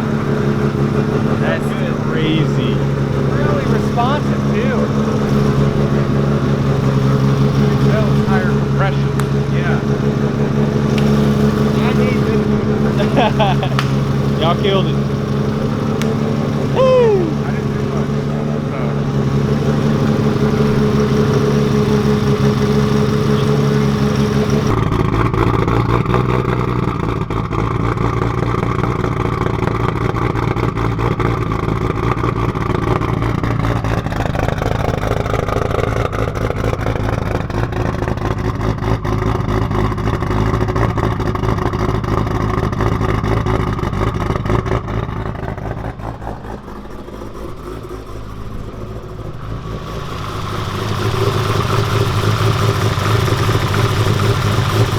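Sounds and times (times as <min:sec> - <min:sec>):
turbo car engine choppy idle: 0:00.0 - 0:54.9.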